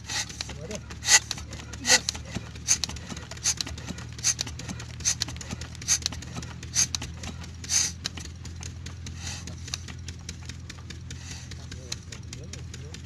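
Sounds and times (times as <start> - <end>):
diesel engine starting: 0.0 - 13.0.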